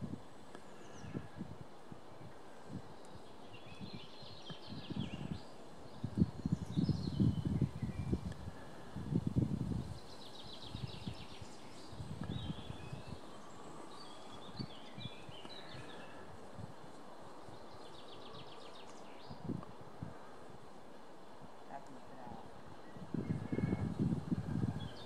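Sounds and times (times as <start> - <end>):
faint outdoor hiss: 0.0 - 25.0
small songbirds singing: 2.2 - 20.5, 21.7 - 25.0.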